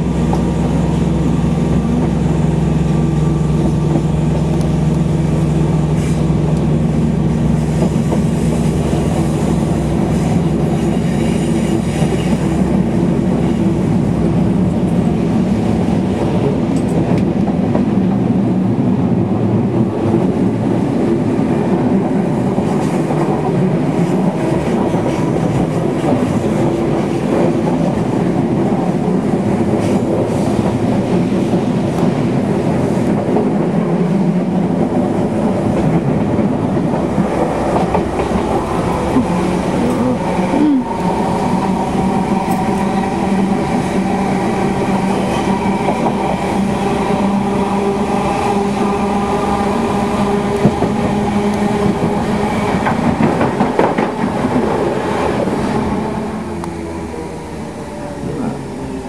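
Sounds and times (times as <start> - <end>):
train wheels rumbling on track: 0.0 - 59.0
rail joint clicks: 0.1 - 18.3, 19.8 - 56.9.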